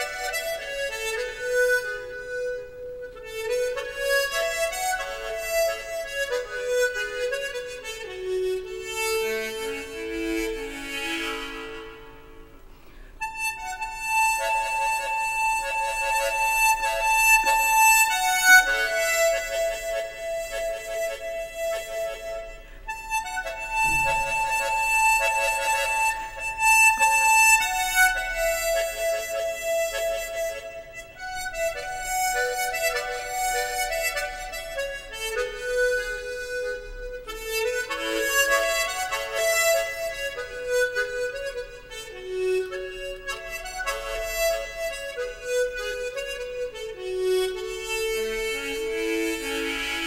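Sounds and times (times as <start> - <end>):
harmonica playing slow melody: 0.0 - 50.0.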